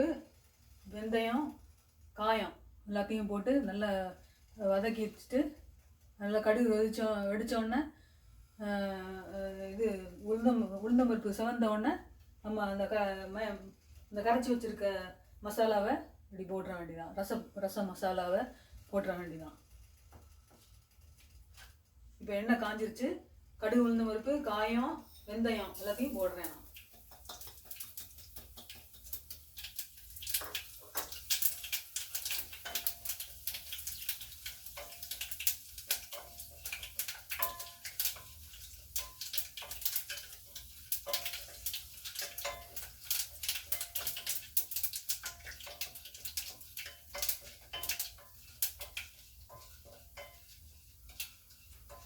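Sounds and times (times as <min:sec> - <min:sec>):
seeds popping in hot oil: 0:00.0 - 0:07.6, 0:17.2 - 0:52.0.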